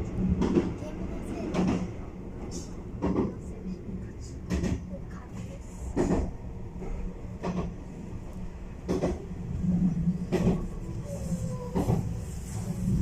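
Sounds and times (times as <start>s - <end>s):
electric train rolling on rails: 0.0s - 13.0s.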